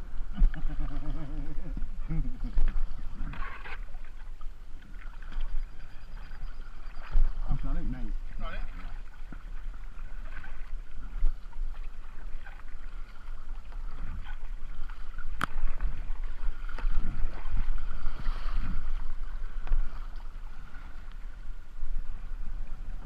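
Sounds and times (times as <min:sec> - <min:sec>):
paddle strokes and splashing: 0:00.0 - 0:23.0
river water rumble: 0:00.0 - 0:23.0.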